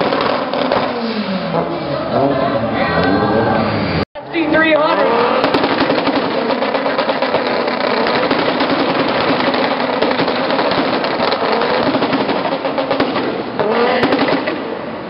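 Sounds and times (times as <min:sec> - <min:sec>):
car engine revving loudly: 0:00.0 - 0:04.1, 0:04.8 - 0:14.7.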